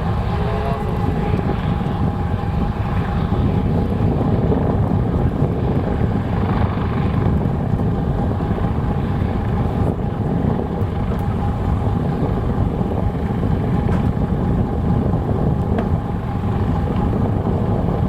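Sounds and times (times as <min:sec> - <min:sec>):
boat engine rumble: 0:00.0 - 0:18.0
faint engine whine: 0:00.0 - 0:18.0
wind on microphone: 0:00.0 - 0:18.0.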